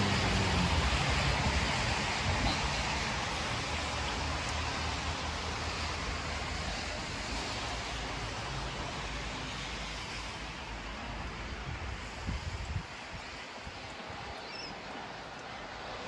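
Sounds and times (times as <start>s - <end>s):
heavy rain falling: 0.0s - 16.0s
traffic rumble on wet road: 0.0s - 16.0s.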